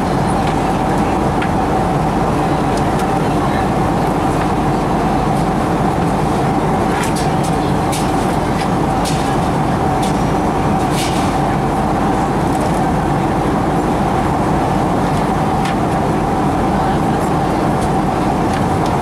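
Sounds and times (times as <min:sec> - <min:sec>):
jet engines droning: 0:00.0 - 0:19.0
steady hum tone: 0:00.0 - 0:19.0.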